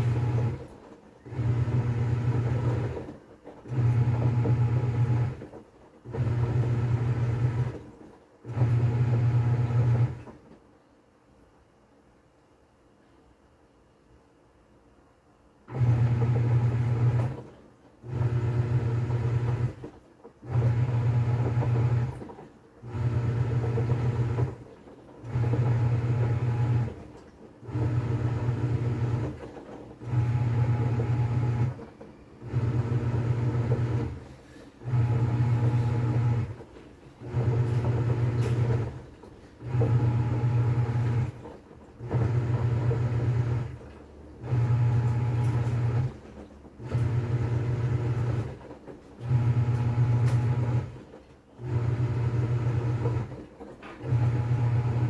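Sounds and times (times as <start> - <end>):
washing machine agitating: 0.0 - 10.8, 15.6 - 55.0.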